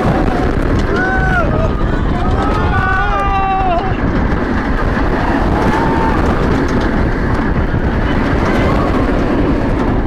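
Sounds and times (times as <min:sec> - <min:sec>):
roller coaster rumble: 0:00.0 - 0:10.0
wind on microphone: 0:00.0 - 0:10.0.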